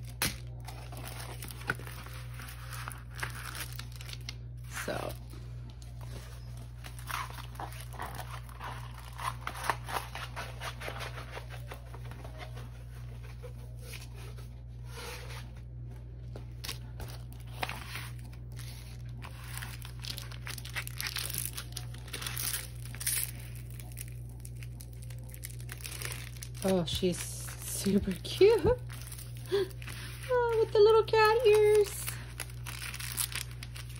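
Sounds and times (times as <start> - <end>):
plastic film crinkling: 0.0 - 14.6, 16.2 - 33.9.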